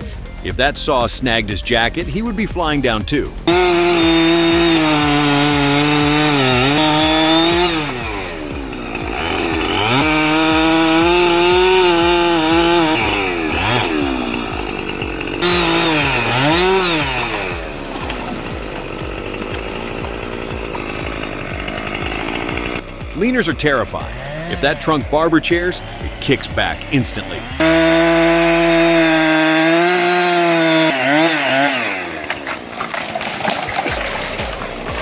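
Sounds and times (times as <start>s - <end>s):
chainsaw cutting and revving: 0.0s - 35.0s.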